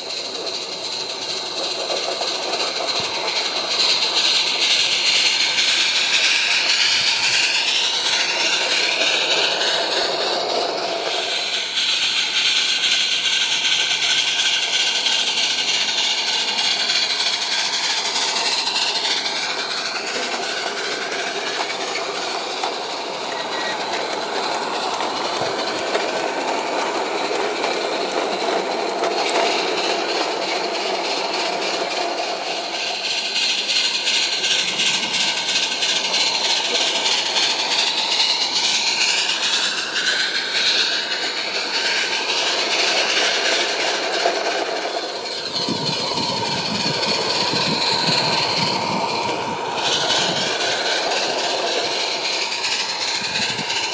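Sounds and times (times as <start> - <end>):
small wheels rolling on track: 0.0 - 53.9
steam hiss and exhaust: 0.0 - 53.9.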